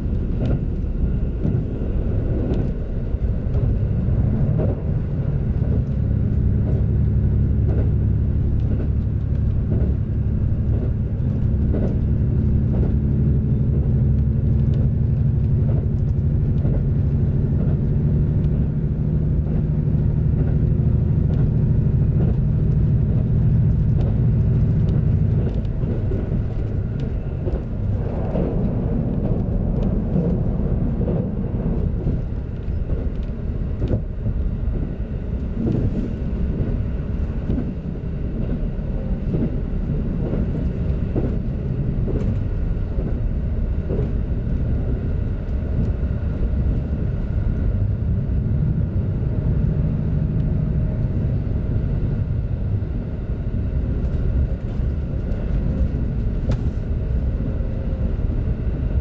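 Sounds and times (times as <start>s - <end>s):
diesel railcar rumbling: 0.0s - 59.0s.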